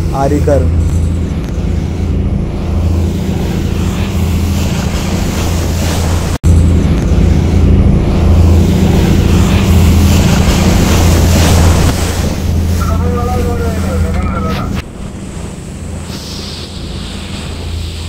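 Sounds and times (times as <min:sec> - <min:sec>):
boat engine humming: 0:00.0 - 0:18.0
water churning along hull: 0:00.0 - 0:18.0.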